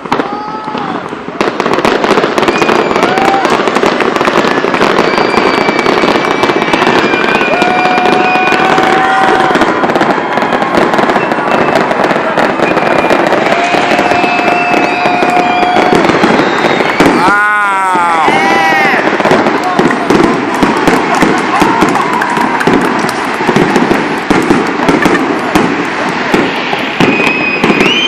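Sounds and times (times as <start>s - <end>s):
fireworks crackling and popping: 0.0s - 28.0s
fireworks whistling: 0.0s - 28.0s.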